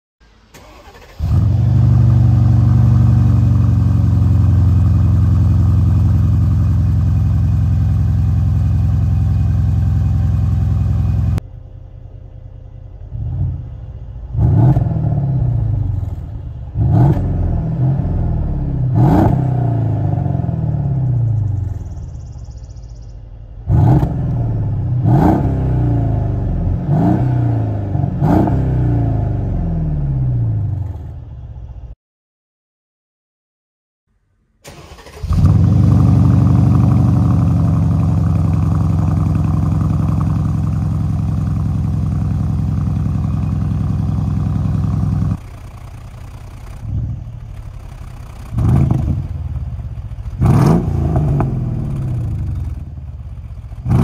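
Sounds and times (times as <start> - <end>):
car engine starting and idling: 0.2 - 31.9, 34.6 - 54.0
car engine revving: 0.6 - 11.4, 13.1 - 22.3, 23.6 - 31.5, 34.6 - 54.0.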